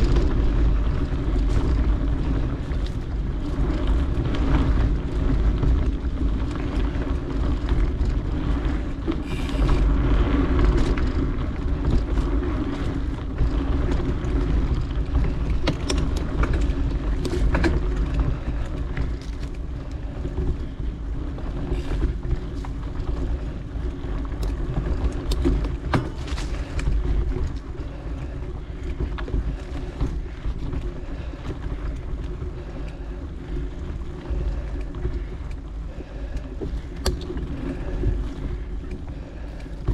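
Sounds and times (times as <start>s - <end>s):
bike clicks and ticks: 0.0s - 39.9s
bike tyres rumbling on trail: 0.0s - 39.9s
wind buffeting microphone: 0.0s - 39.9s.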